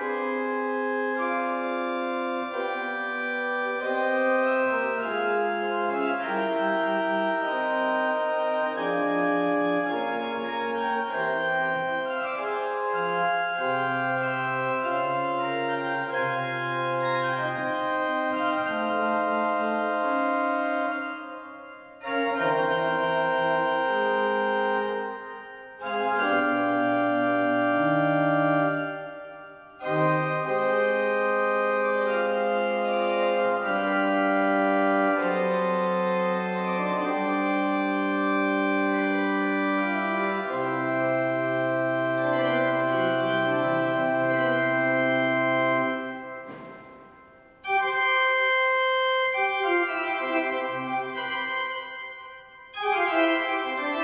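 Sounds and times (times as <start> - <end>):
pipe organ playing: 0.0 - 54.0.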